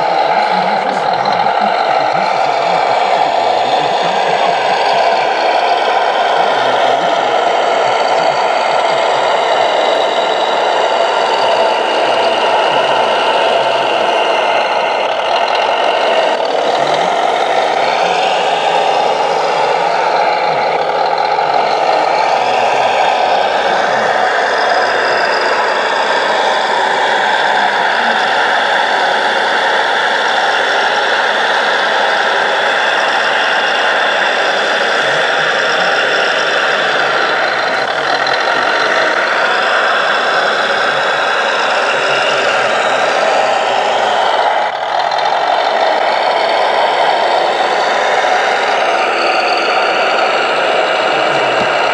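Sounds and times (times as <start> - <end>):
simulated diesel engine running: 0.0 - 51.9.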